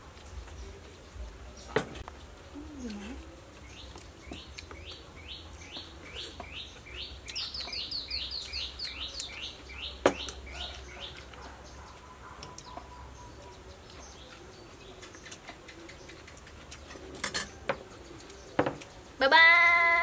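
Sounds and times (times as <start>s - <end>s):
bird chirping: 0.4s - 19.2s.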